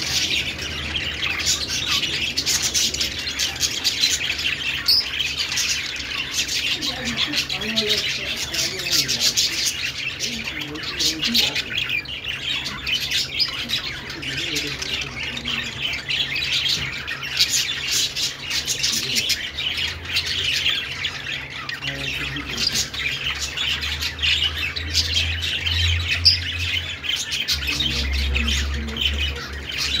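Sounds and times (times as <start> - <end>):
budgerigars chirping and warbling: 0.0 - 30.0.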